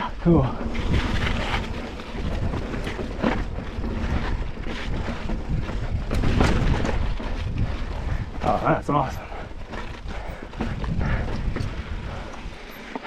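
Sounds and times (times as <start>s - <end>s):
wind buffeting microphone: 0.0s - 12.8s
bike knocks and rattles: 0.4s - 13.0s.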